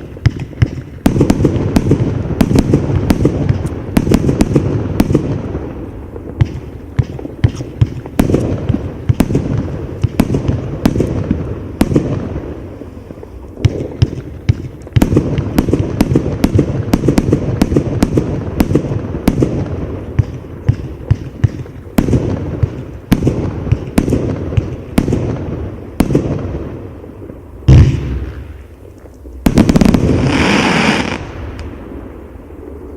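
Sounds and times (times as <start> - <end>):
firework bangs: 0.0 - 32.9
firework crackling: 0.0 - 32.9.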